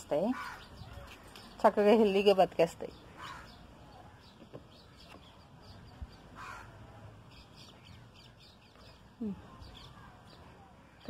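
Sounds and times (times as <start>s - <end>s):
faint distant bird calls: 0.0s - 11.0s.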